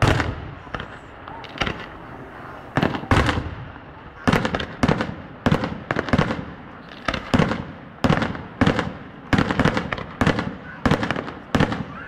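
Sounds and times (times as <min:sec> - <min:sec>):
fireworks bangs: 0:00.0 - 0:12.0
fireworks rumble: 0:00.0 - 0:12.0.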